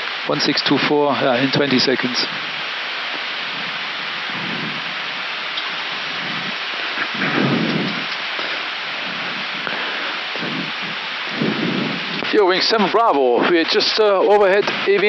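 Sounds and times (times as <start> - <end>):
cockpit air hiss: 0.0 - 15.0.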